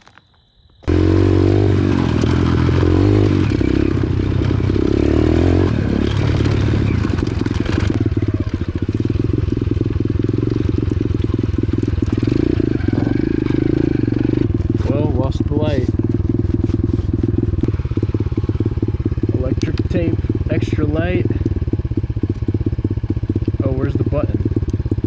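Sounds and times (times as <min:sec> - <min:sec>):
pit bike engine revving: 0:00.8 - 0:25.0.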